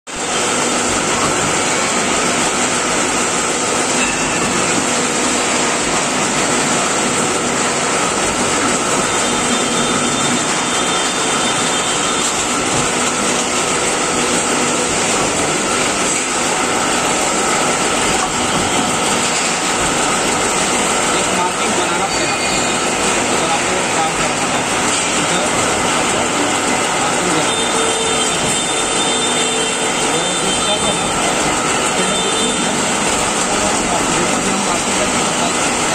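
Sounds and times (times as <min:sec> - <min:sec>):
pipe bending machine running: 0:00.1 - 0:35.9.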